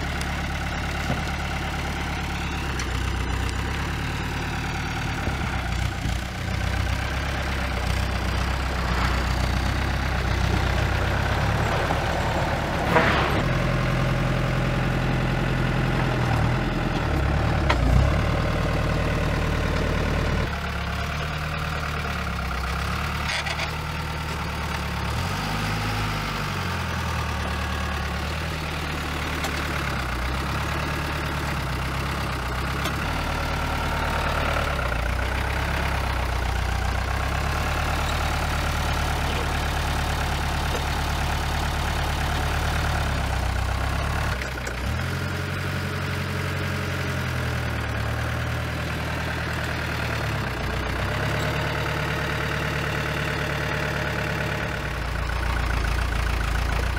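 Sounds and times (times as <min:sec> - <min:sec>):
diesel forklift engine running: 0:00.0 - 0:56.9.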